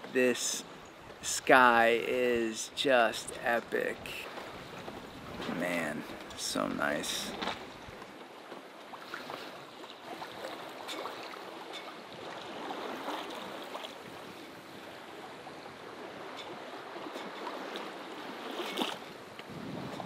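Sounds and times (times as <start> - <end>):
water rushing along boat hull: 0.0 - 20.0.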